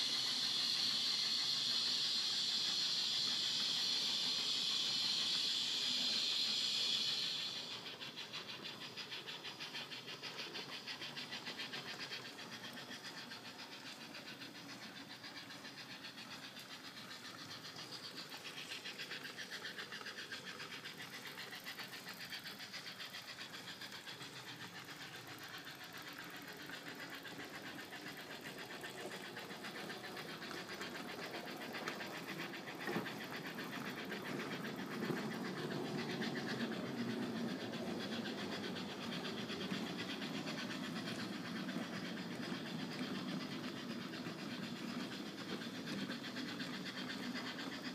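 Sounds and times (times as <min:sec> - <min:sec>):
model steam train chuffing: 0:00.0 - 0:47.9.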